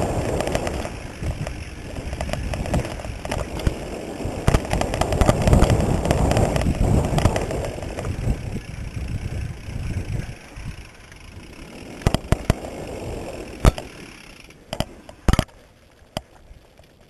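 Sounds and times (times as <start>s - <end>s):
bike rattling over bumps: 0.0s - 17.0s.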